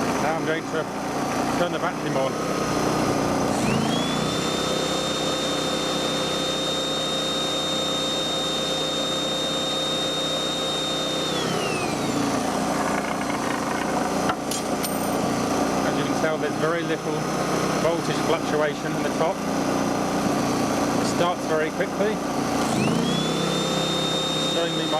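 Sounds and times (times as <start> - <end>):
vacuum cleaner motor whine: 0.0 - 14.5, 15.1 - 24.9
generator running: 0.0 - 24.9.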